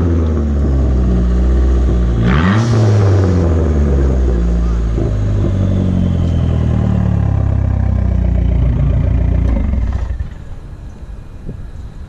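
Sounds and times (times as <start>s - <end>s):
car engine running loudly: 0.0s - 11.9s.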